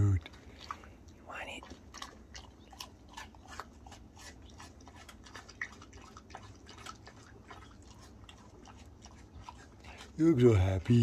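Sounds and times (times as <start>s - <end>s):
animal chewing: 0.0s - 11.0s.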